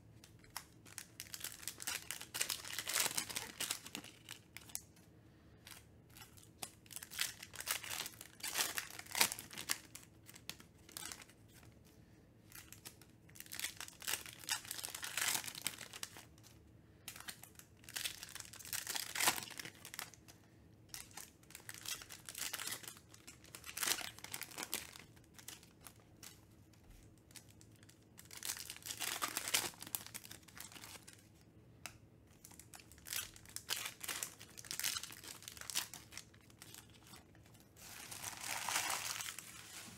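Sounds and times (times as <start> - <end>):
foil wrappers crinkling and tearing: 0.4 - 4.9, 5.7 - 11.7, 12.5 - 16.3, 17.1 - 20.2, 20.9 - 26.4, 27.0 - 31.3, 32.4 - 39.9.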